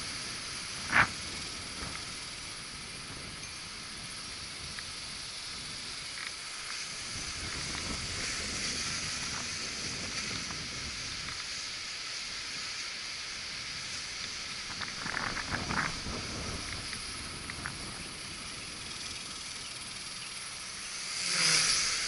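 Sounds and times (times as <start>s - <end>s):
wind buffeting microphone: 0.0s - 6.1s, 6.7s - 11.8s, 12.4s - 20.1s
quadcopter motors hissing: 0.0s - 22.0s.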